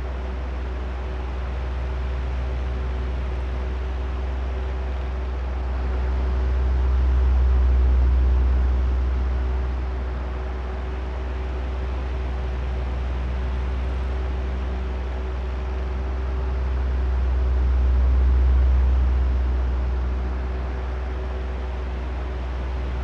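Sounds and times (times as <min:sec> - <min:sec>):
electric fan drone: 0:00.0 - 0:23.0.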